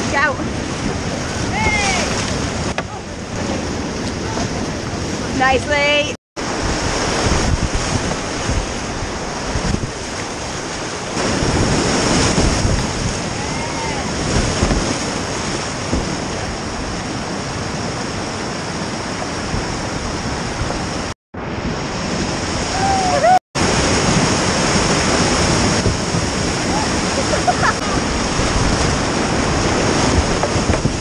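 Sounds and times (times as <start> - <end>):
whitewater rapids rushing: 0.0 - 5.7, 6.4 - 21.1, 21.8 - 31.0.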